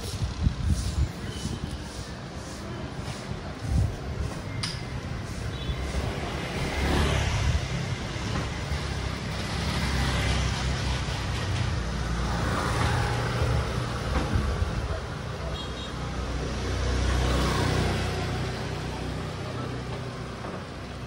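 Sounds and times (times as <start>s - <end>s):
scooter engines passing: 0.0s - 21.0s
tyres hissing on wet pavement: 0.0s - 21.0s.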